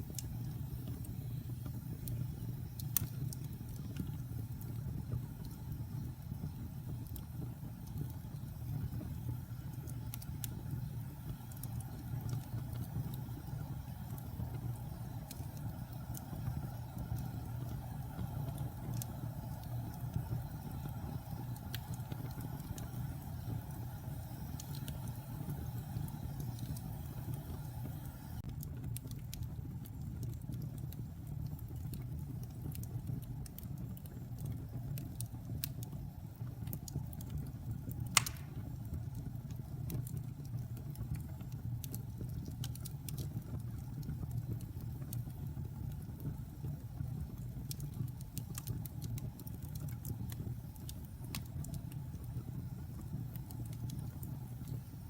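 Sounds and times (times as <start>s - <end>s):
fire crackling: 0.0s - 55.0s
fire flames rumbling: 0.0s - 55.0s.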